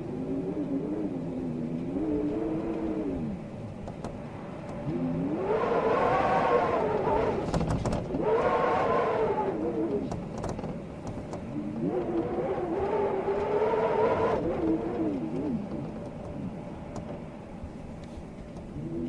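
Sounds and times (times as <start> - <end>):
storm wind howling in gusts: 0.0 - 19.0.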